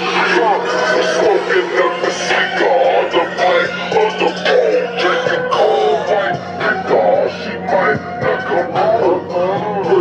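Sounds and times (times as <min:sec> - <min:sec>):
hip-hop song through car stereo: 0:00.0 - 0:10.0.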